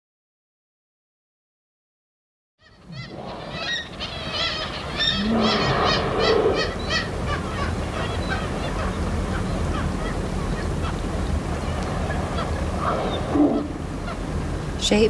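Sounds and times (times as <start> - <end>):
flock of birds calling: 2.6 - 15.0
steady low rumble: 2.8 - 15.0.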